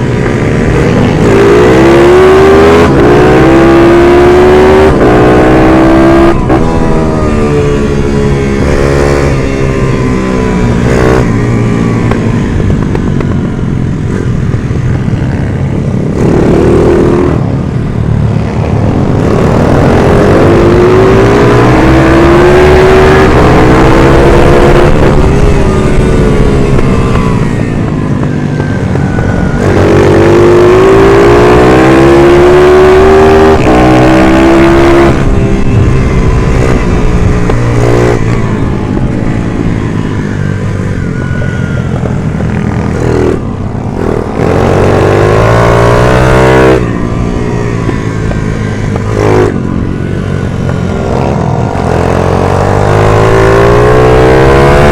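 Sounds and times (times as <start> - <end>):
minibike engine revving: 0.0 - 54.9.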